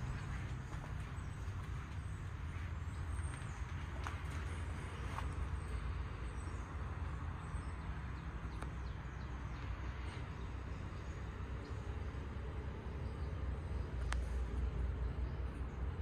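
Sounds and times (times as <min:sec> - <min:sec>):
birds chirping faintly: 0:00.0 - 0:16.0
steady low rumble: 0:00.0 - 0:16.0.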